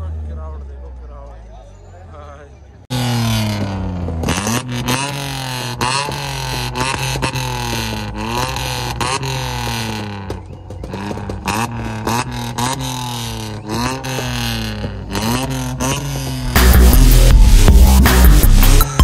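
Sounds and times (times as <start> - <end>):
engine revving with loud exhaust: 2.6 - 19.0.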